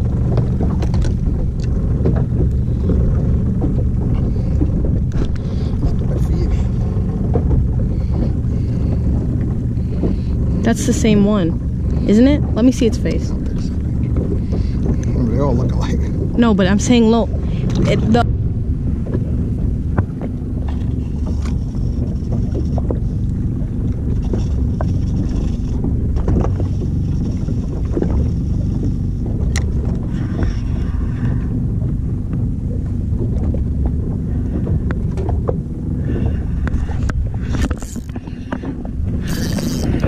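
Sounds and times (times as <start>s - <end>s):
boat rumble: 0.0s - 40.0s.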